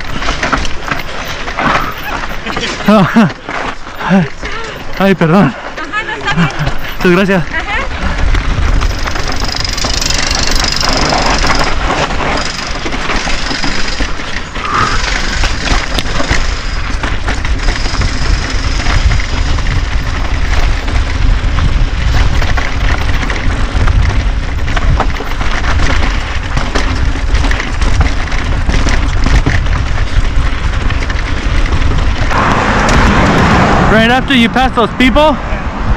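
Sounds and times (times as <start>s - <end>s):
bike knocking and clattering: 0.0s - 33.4s
tyres crunching over gravel: 0.0s - 35.3s
wind rumble on microphone: 6.3s - 35.9s.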